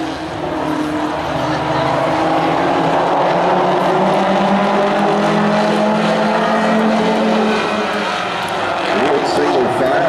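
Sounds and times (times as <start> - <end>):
racing truck engines running hard: 0.0 - 10.0.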